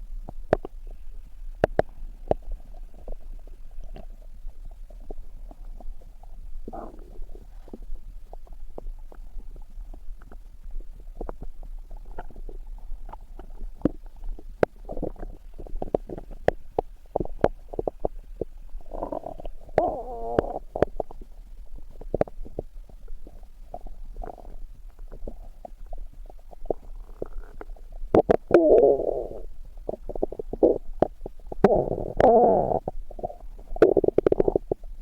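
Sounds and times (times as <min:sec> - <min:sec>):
stomach growling and gurgling: 0:00.0 - 0:35.0.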